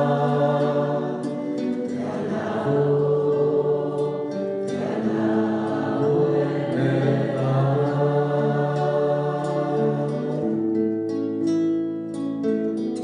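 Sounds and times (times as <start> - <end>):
voices holding sustained notes: 0.0 - 11.0
low musical accompaniment: 0.0 - 13.0.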